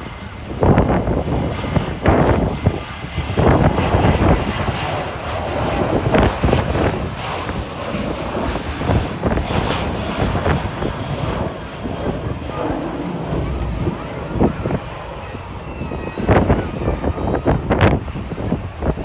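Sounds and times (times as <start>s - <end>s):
jet engines at takeoff power: 0.0s - 19.0s
wind buffeting microphone: 0.0s - 19.0s.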